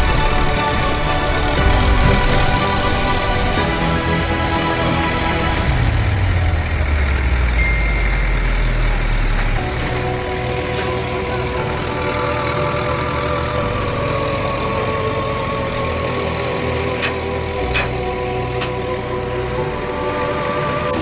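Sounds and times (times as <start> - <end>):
tractor diesel engine rumbling: 0.0 - 21.0.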